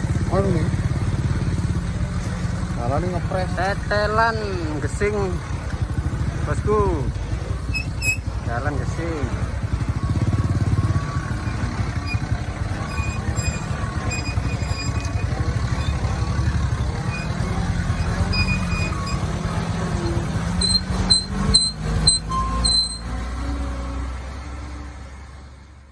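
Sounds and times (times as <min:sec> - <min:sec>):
motorcycle engine running: 0:00.0 - 0:23.0
truck engine running: 0:00.0 - 0:25.8.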